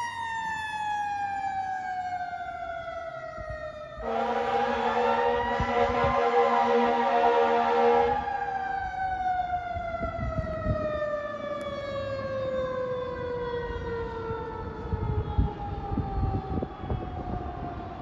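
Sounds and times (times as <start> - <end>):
mechanical siren winding down: 0.0 - 18.0
traffic rumble: 0.0 - 18.0.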